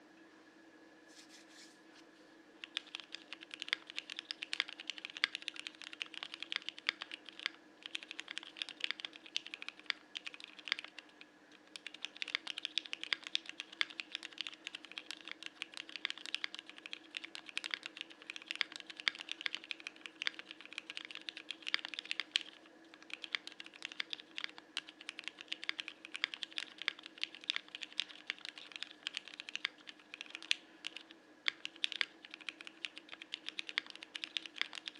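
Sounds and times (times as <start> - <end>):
faint steady hum: 0.0 - 34.9
mechanical keyboard typing: 2.6 - 34.9.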